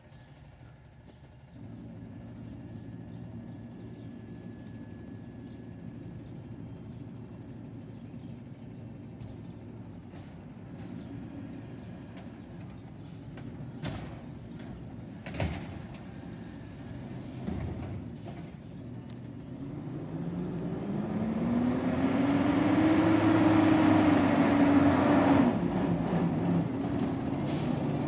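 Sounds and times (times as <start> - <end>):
garbage truck engine running: 0.0 - 21.4, 25.5 - 28.0.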